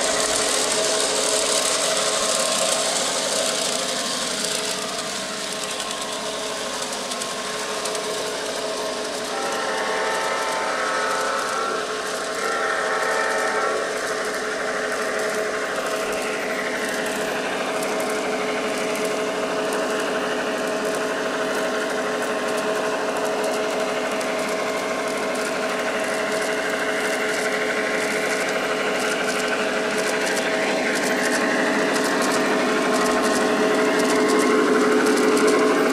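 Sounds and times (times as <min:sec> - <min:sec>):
metal wheels rolling on track: 0:00.0 - 0:35.9
model train motor whirring: 0:00.0 - 0:35.9
thin wavering whine: 0:00.0 - 0:35.9.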